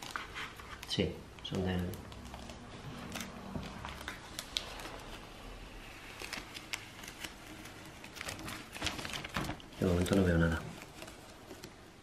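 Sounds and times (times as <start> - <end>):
plastic film peeling off glass: 1.8 - 12.0.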